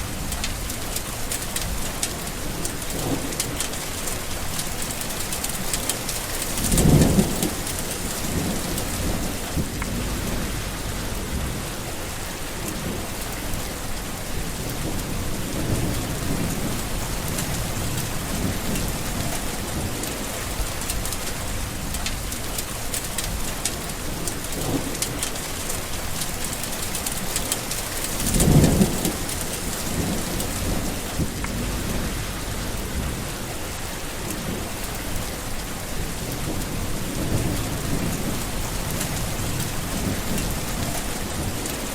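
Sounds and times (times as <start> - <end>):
heavy rain falling: 0.0 - 41.9
thunder rumbling: 0.0 - 41.9.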